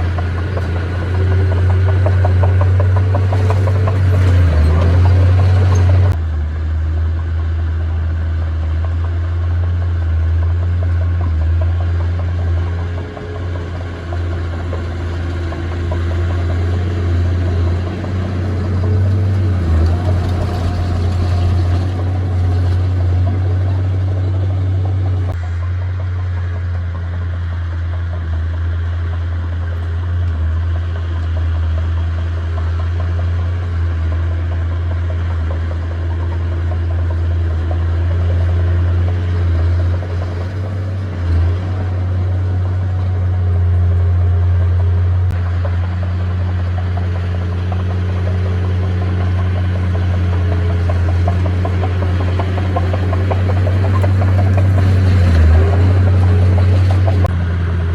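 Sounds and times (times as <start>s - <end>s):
diesel engine humming: 0.0s - 57.9s
engine rattle: 0.0s - 57.9s.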